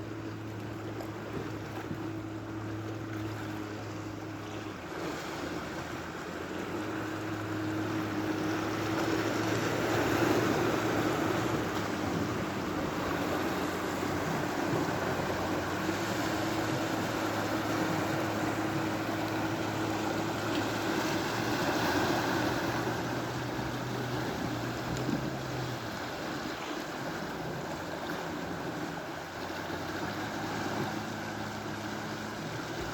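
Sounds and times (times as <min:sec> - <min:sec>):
low engine hum: 0:00.0 - 0:32.9
sea waves washing: 0:00.0 - 0:32.9.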